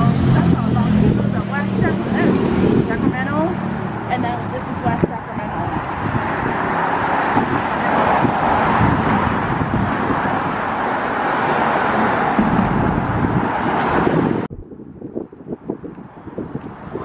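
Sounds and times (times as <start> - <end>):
road traffic noise: 0.0 - 17.0
wind buffeting microphone: 0.0 - 17.0.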